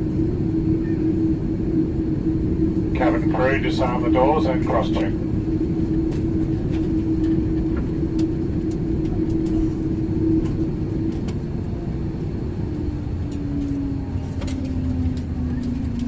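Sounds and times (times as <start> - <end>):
aircraft cabin drone: 0.0 - 16.0.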